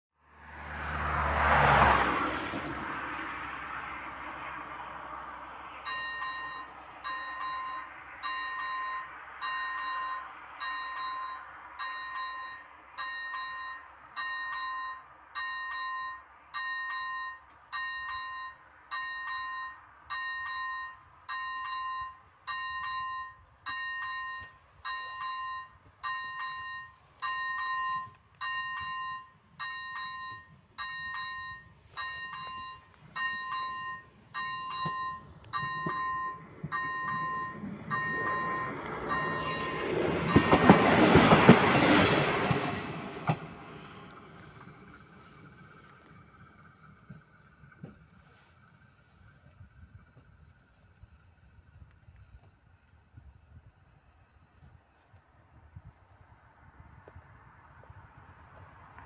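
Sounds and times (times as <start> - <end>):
car passing: 0.2 - 21.4, 22.1 - 51.2, 54.4 - 59.0
level crossing warning bell: 3.8 - 52.9.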